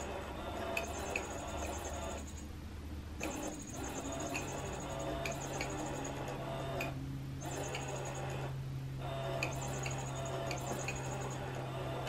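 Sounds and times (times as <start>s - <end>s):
toy motor hum: 0.0s - 2.5s, 3.2s - 12.0s.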